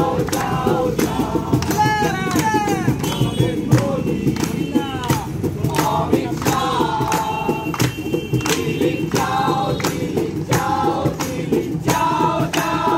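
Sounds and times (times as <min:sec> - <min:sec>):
song with singing voices: 0:00.0 - 0:12.9
steady regular beat: 0:00.0 - 0:12.9.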